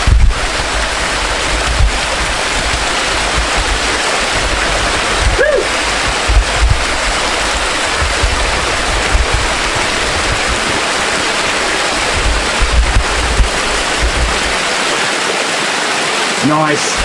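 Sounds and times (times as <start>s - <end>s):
low rumbles: 0.0s - 15.0s
waterfall roaring: 0.0s - 17.0s.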